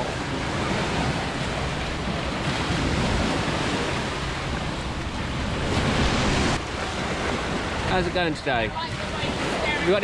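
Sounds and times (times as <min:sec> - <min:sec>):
sea waves washing on beach: 0:00.0 - 0:10.0.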